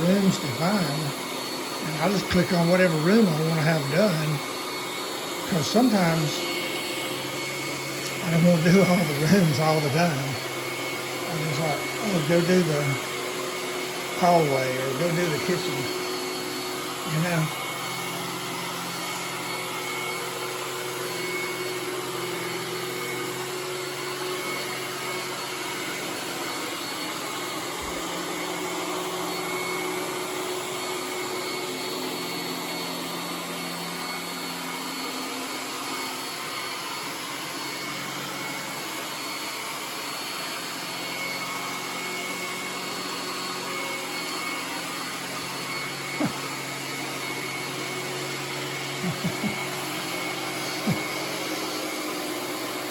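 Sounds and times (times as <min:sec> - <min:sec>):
robot vacuum motor hum: 0:00.0 - 0:52.9.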